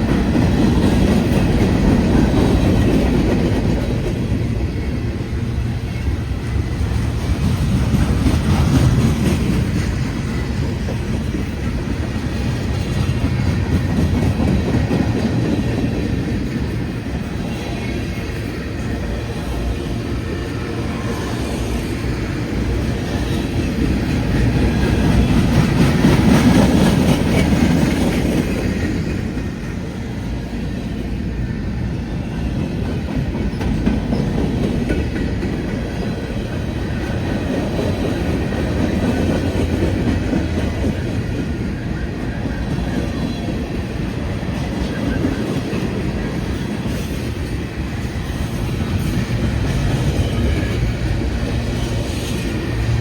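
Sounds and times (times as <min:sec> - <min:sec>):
train rolling past: 0:00.0 - 0:53.0
train wheels clicking on rails: 0:00.0 - 0:53.0.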